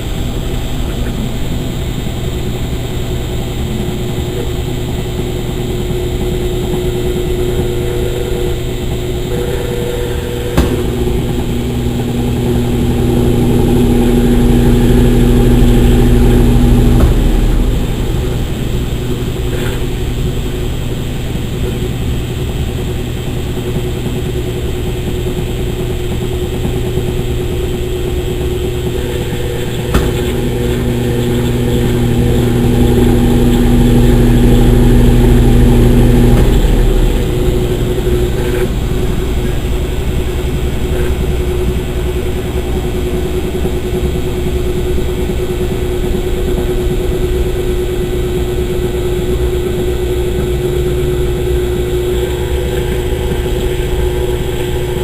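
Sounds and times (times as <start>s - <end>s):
low machine tone: 0.0s - 55.0s
washing machine motor hum: 0.0s - 55.0s.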